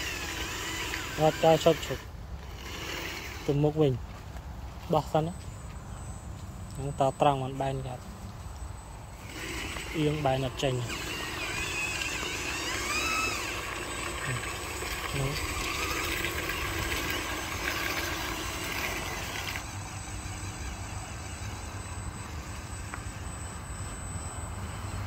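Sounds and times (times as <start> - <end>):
small electric motors whining: 0.0 - 25.0.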